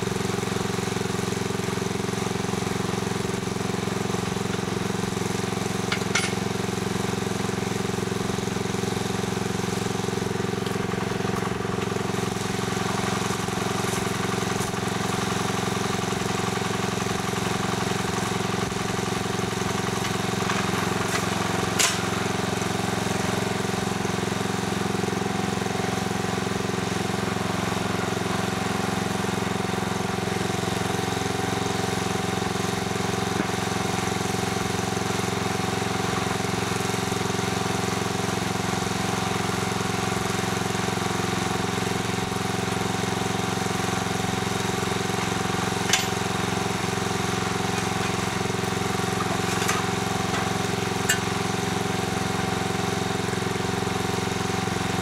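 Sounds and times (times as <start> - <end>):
small engine idling: 0.0 - 55.0.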